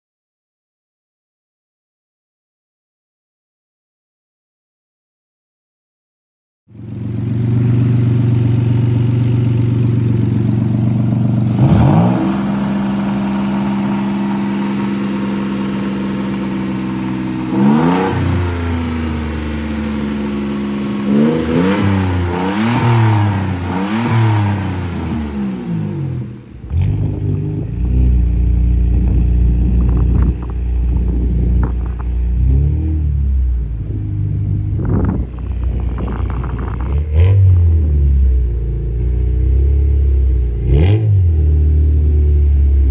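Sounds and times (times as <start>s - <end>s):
car engine idling with revs: 6.7s - 42.9s
deep uneven engine rumble: 6.7s - 42.9s.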